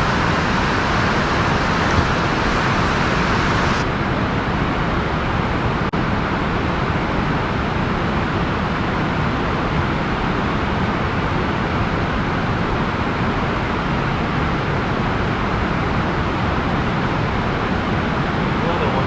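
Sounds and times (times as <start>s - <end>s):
outdoor rushing noise: 0.0s - 19.0s.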